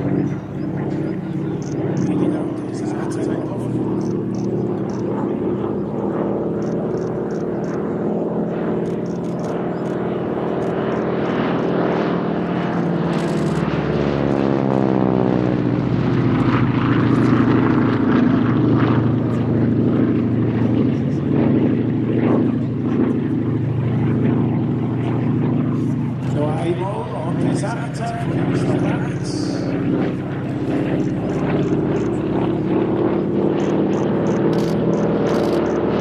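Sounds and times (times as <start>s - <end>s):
propeller plane engine: 0.0s - 36.0s.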